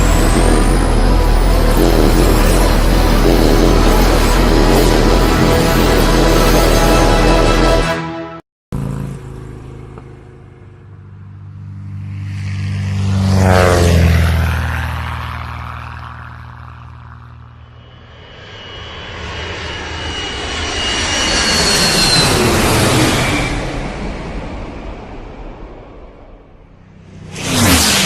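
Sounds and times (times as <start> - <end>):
engine passing by: 0.0 - 7.5, 8.8 - 24.9, 26.5 - 28.0.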